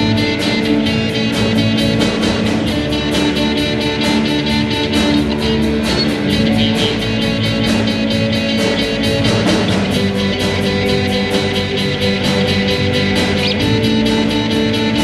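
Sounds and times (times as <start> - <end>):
drum kit cymbal beat: 0.0 - 15.0
sustained electric guitars: 0.0 - 15.0.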